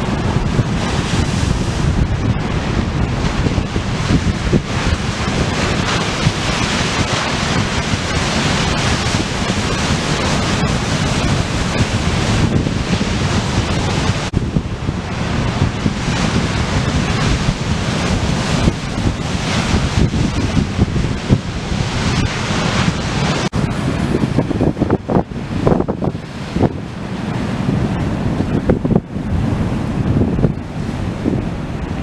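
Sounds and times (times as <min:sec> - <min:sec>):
surf pounding the shore: 0:00.0 - 0:32.0
wind buffeting microphone: 0:00.0 - 0:32.0.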